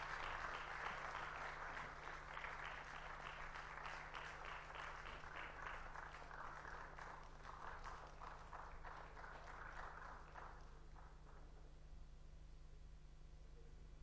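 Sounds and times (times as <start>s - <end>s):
audience applause: 0.0s - 11.6s
low electrical hum: 0.0s - 14.0s.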